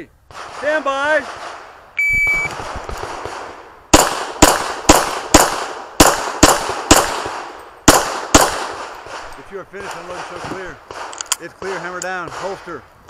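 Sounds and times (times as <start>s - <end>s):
pistol gunshots: 0.3s - 1.8s, 2.4s - 12.8s.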